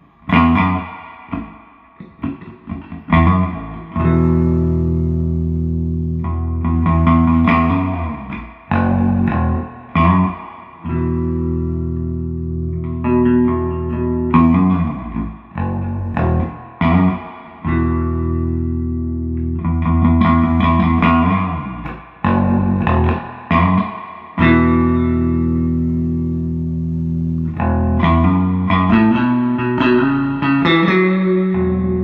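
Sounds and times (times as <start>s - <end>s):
electric bass guitar with reverb: 0.0s - 32.0s.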